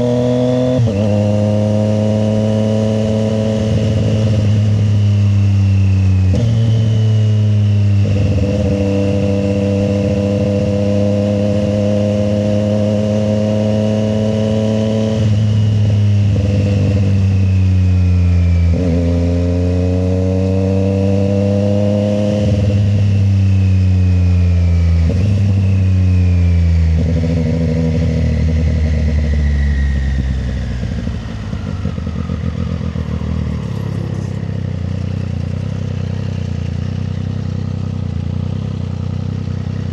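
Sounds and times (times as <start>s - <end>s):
motorcycle engine on the road: 0.0s - 39.9s.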